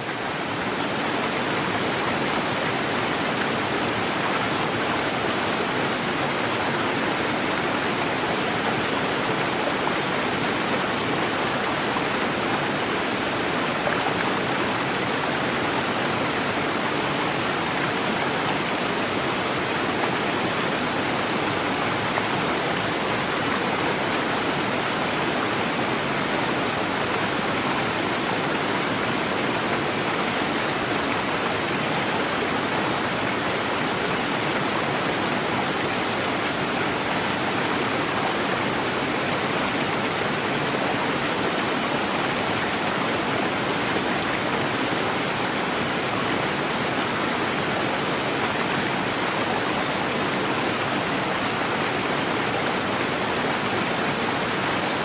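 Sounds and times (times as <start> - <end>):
waterfall rushing into pool: 0.0 - 55.0.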